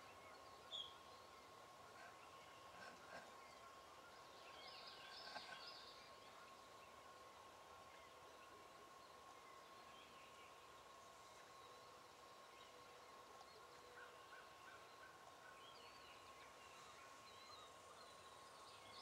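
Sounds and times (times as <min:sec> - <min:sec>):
faint steady tone: 0:00.0 - 0:19.0.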